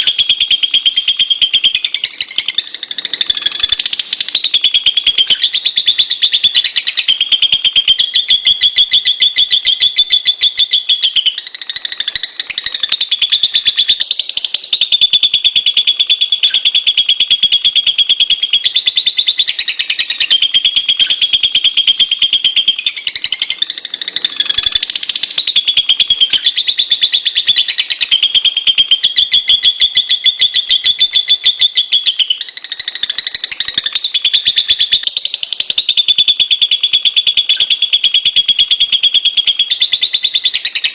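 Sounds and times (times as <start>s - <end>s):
lovebird chattering: 0.0s - 40.9s.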